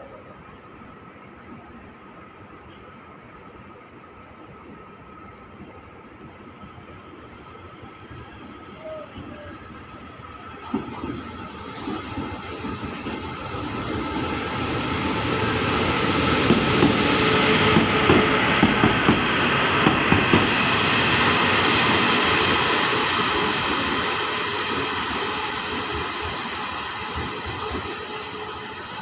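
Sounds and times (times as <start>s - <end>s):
electric locomotives passing: 0.0s - 29.0s.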